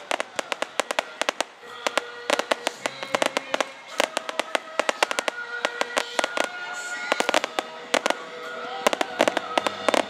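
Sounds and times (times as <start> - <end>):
faint music: 0.0 - 10.0
fireworks crackling bangs: 0.0 - 10.0.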